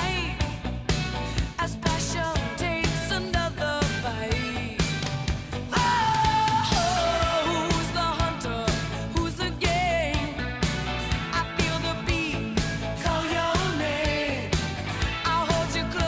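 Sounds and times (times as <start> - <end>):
pop-rock song with vocals: 0.0 - 16.0.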